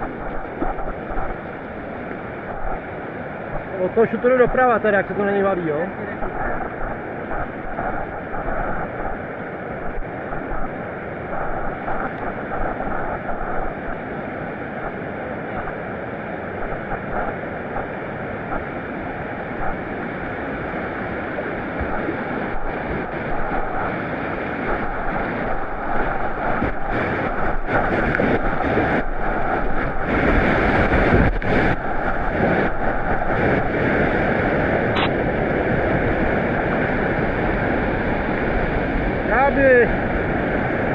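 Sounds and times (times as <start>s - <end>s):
whitewater rushing: 0.0s - 40.9s
wind hitting microphone: 0.0s - 40.9s.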